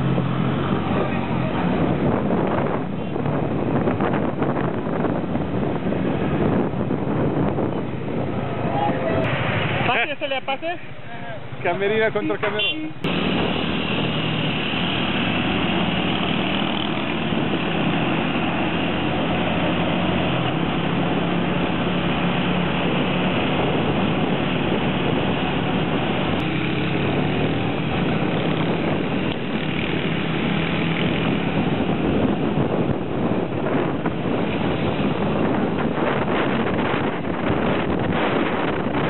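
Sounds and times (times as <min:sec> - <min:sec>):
wind and road noise: 0:00.0 - 0:39.0.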